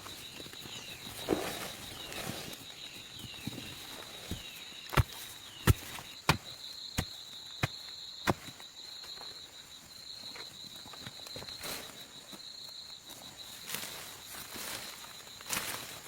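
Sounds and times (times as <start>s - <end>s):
high insect trill: 0.0s - 16.0s.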